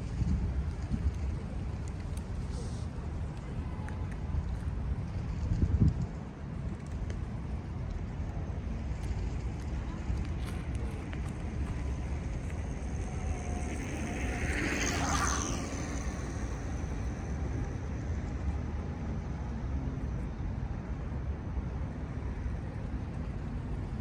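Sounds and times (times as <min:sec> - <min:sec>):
low rumble of distant traffic: 0:00.0 - 0:24.0.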